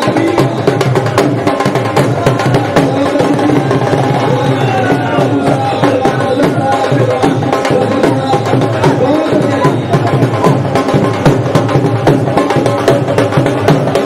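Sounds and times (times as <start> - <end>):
dhol drum beating fast rhythm: 0.0 - 14.0.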